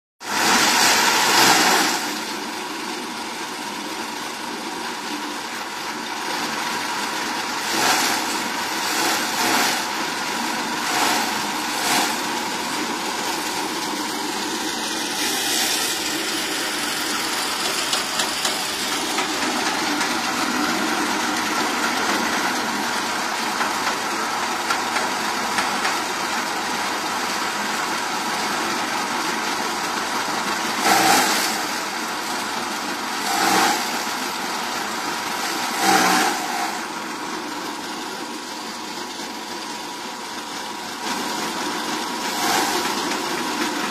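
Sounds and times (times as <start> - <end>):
electric chaff cutter running: 0.2 - 5.2, 6.1 - 26.8, 30.2 - 38.3, 41.1 - 43.9.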